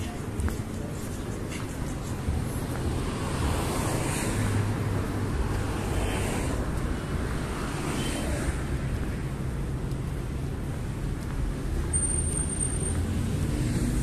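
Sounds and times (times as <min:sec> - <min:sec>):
rumble of passing cars: 0:00.0 - 0:14.0.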